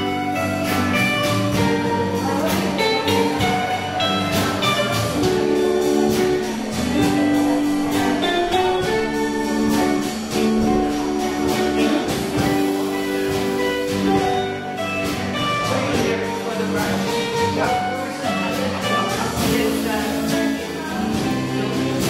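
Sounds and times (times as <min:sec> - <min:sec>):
drum kit beat: 0:00.0 - 0:22.0
electric bass: 0:00.0 - 0:22.0
electric guitars: 0:00.0 - 0:22.0.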